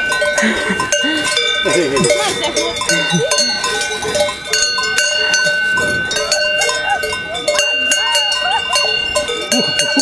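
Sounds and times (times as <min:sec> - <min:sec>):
cowbells clanking: 0:00.0 - 0:10.0.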